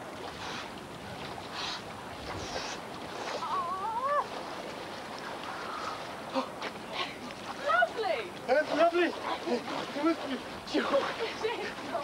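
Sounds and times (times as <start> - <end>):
water splashing around swimmers: 0.0 - 12.0.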